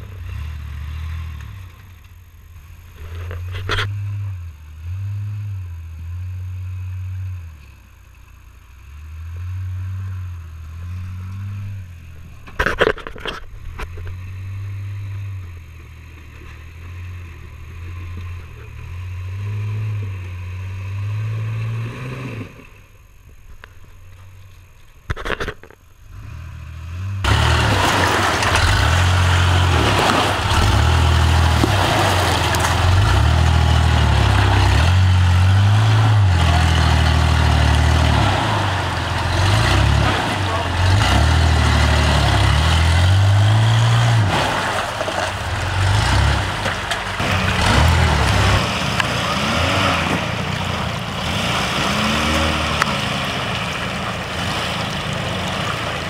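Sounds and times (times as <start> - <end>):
pickup engine running at low speed: 0.0 - 56.0.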